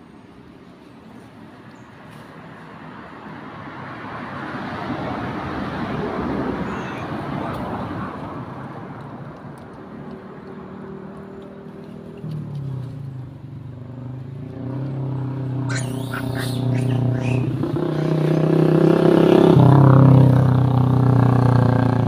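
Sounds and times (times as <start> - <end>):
vehicle passing by: 2.0 - 22.0.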